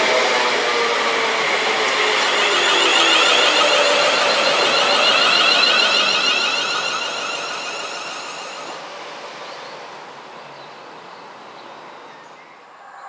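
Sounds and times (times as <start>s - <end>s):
electric train whine: 0.0s - 12.1s
faint train rumble: 0.0s - 12.2s.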